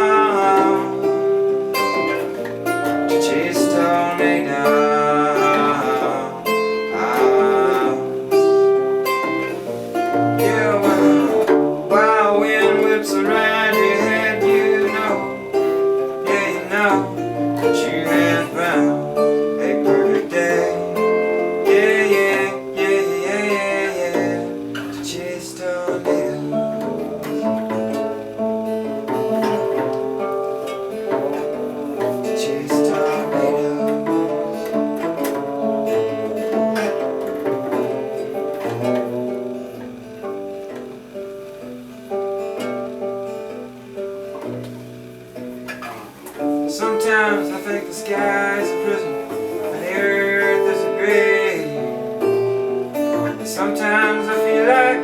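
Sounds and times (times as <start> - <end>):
acoustic guitar music: 0.0 - 55.0
bending melody line: 0.0 - 55.0.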